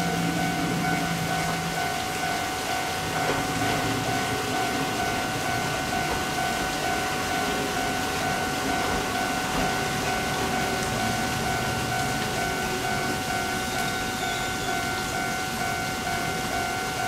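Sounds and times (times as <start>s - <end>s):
diesel railcar running slowly: 0.0s - 17.0s.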